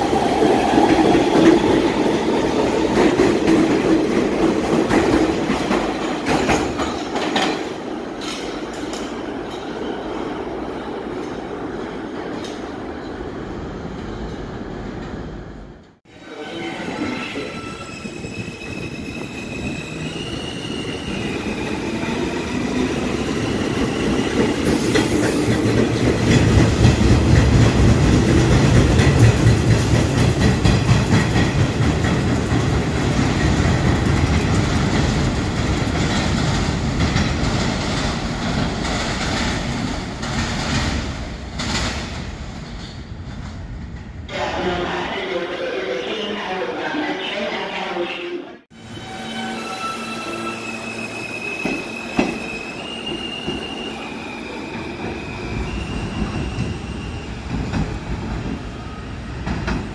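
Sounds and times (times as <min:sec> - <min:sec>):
train rumble and wheel clatter: 0:00.0 - 0:45.2, 0:49.1 - 0:59.9.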